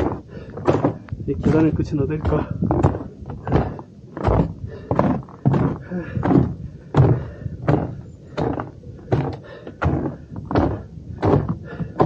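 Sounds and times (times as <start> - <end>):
footsteps on stairs: 0.0 - 12.0.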